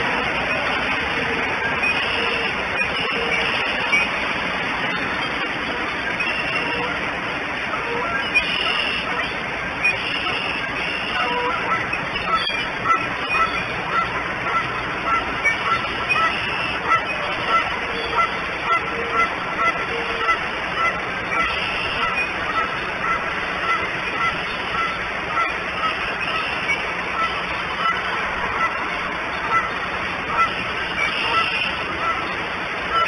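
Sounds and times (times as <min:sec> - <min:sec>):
bird honking calls: 0:00.0 - 0:33.0.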